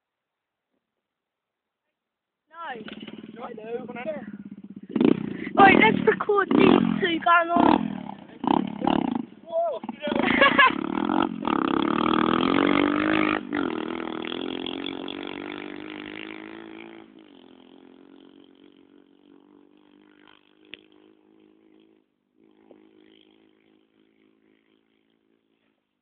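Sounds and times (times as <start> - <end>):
motorbike engine revving: 2.6 - 25.8.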